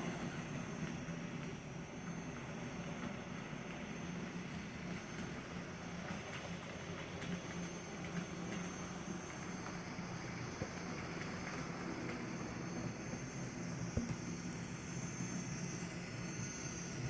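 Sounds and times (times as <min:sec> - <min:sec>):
model train hum: 0:00.0 - 0:17.0.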